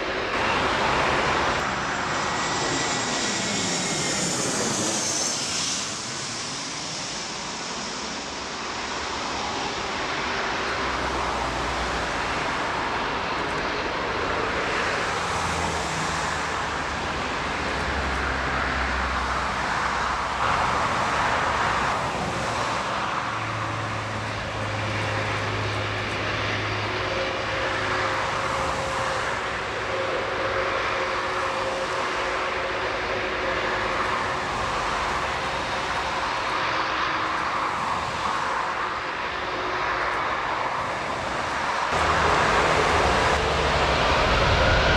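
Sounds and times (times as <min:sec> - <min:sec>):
jet engines rushing: 0:00.0 - 0:44.9.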